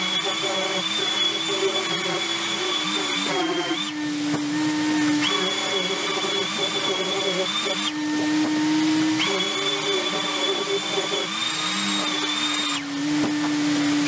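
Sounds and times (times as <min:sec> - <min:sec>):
dust extractor hum: 0:00.0 - 0:14.0
orbital sander whining: 0:00.0 - 0:14.0.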